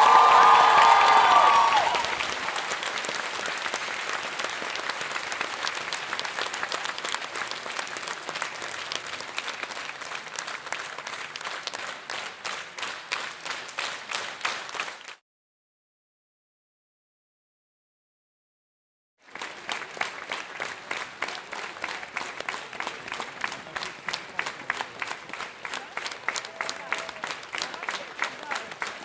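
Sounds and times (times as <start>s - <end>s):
crowd applause: 0.0s - 15.2s, 19.2s - 29.0s.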